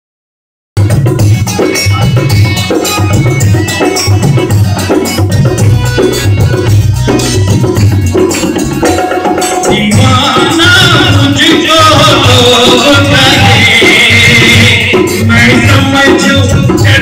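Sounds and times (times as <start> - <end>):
hand drum beating: 0.8 - 17.0
held melody line: 0.8 - 17.0
rattling percussion: 0.8 - 17.0.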